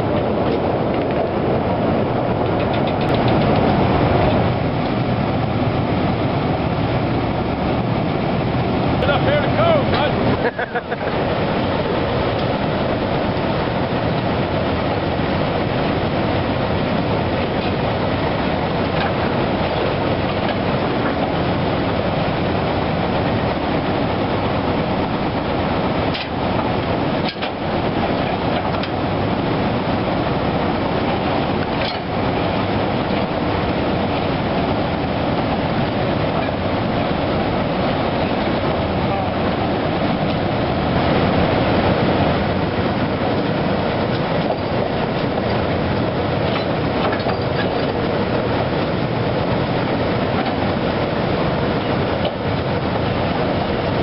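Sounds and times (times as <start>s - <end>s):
flatcars rumbling along rails: 0.0s - 54.0s.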